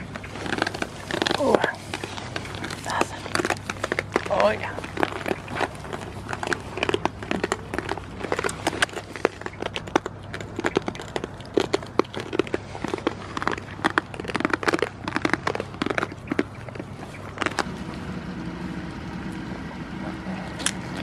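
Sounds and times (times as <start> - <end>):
goats munching in straw: 0.0 - 21.0
steady low hum: 0.0 - 21.0.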